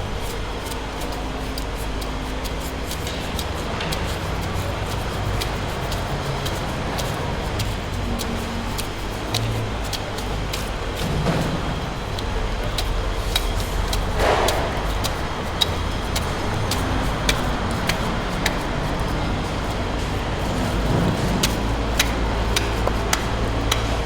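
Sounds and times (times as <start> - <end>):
sharp clicks and knocks: 0.0 - 24.0.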